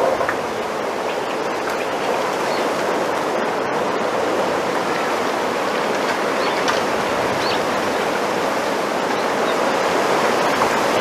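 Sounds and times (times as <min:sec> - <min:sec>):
bamboo leaves rustling in wind: 0:00.0 - 0:11.0.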